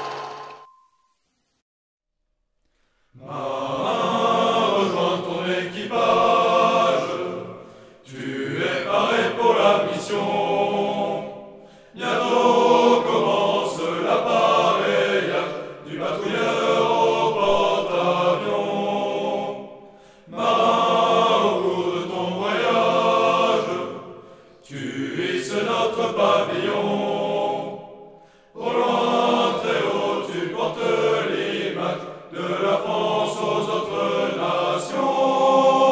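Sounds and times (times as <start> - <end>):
choir singing: 3.2 - 35.9.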